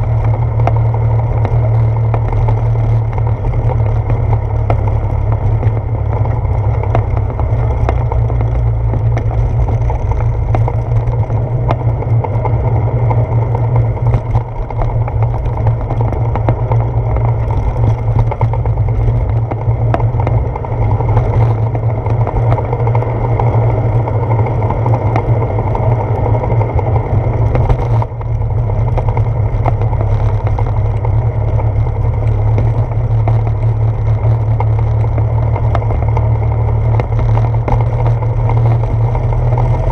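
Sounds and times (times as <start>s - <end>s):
bicycle clicks and rattles: 0.0s - 39.9s.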